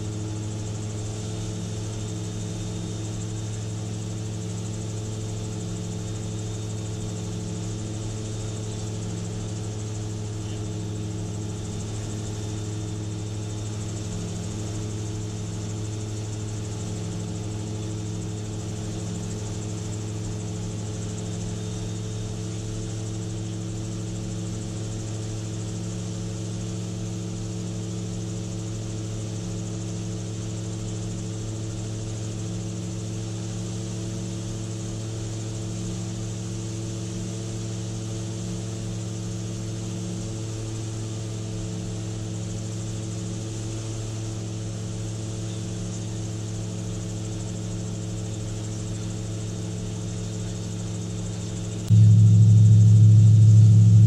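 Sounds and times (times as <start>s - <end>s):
gyrocopter engine and propeller droning: 0.0s - 54.0s.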